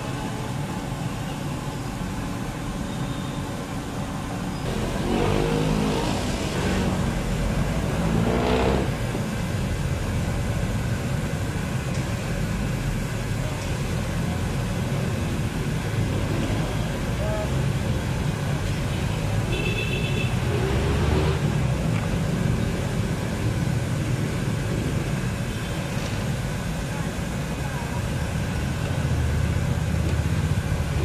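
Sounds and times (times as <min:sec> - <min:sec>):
street traffic rumble: 0:00.0 - 0:31.0
vehicles passing close by: 0:00.0 - 0:31.0.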